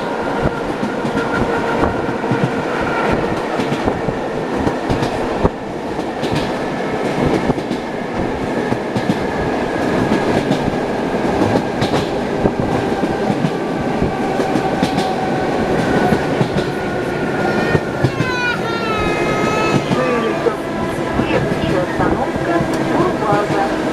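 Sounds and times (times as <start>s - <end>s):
train running rumble: 0.0s - 23.9s.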